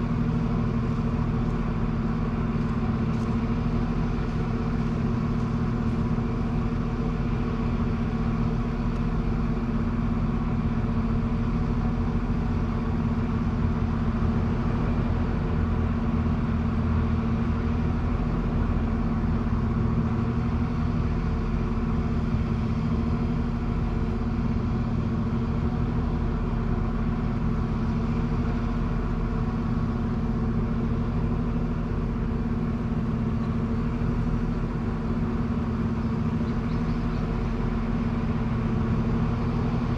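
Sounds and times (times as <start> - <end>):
diesel train engine idling: 0.0 - 39.9.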